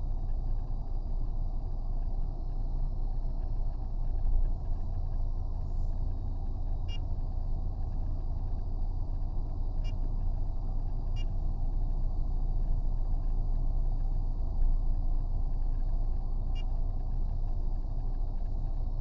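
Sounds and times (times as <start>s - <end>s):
vehicle cabin rumble: 3.1s - 19.0s.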